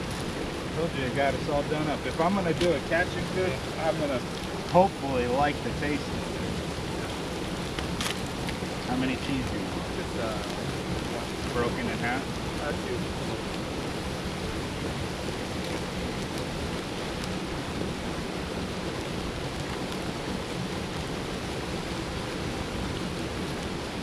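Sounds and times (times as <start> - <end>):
water running over spillway: 0.0 - 24.0.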